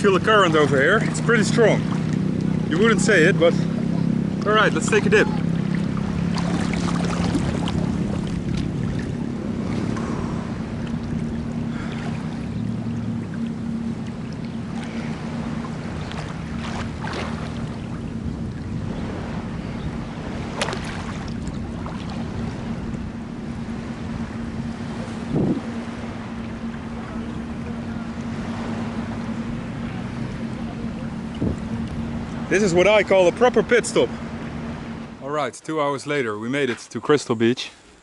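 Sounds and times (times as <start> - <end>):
sharp water splashes: 0.0 - 35.3
steady low hum: 0.0 - 35.6
sea water washing at shoreline: 0.0 - 38.0.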